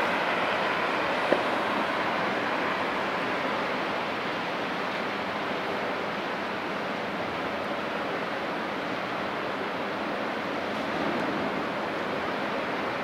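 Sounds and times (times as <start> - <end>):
rushing water from ship wake: 0.0 - 13.0.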